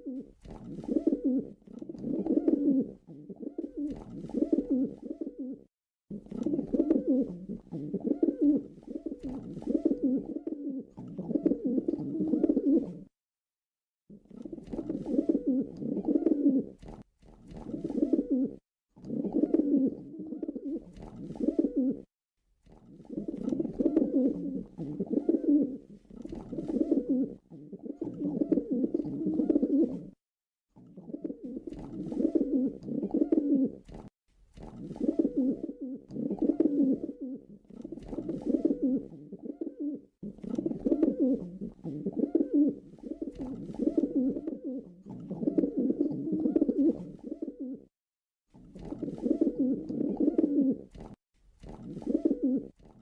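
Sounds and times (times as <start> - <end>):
pigeon cooing: 0.0 - 13.1, 14.2 - 16.8, 17.5 - 22.1, 22.9 - 30.2, 30.8 - 34.0, 34.7 - 47.9, 48.8 - 51.1, 51.9 - 52.8.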